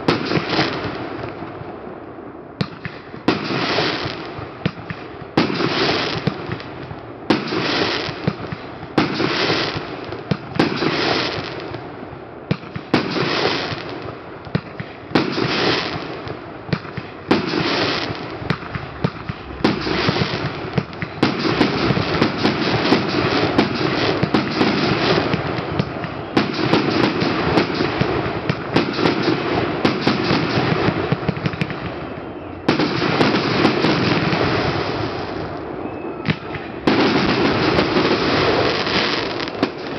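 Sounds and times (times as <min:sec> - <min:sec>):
fireworks bursting: 0:00.0 - 0:01.9, 0:02.6 - 0:39.9
fireworks crackling: 0:00.0 - 0:39.9.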